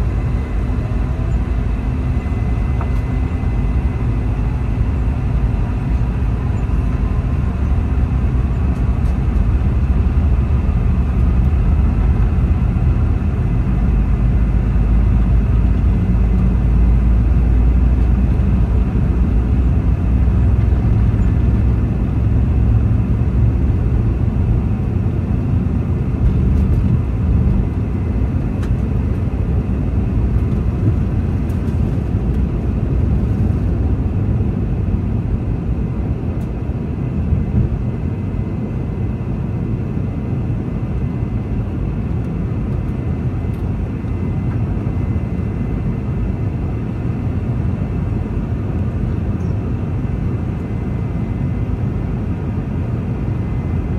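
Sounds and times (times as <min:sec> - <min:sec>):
faint engine whine: 0:00.0 - 0:53.9
jet engine cabin rumble: 0:00.0 - 0:53.9.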